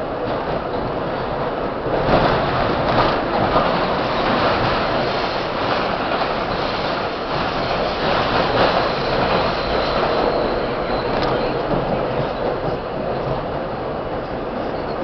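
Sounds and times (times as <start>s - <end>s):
subway train rumbling in tunnel: 0.0s - 15.0s.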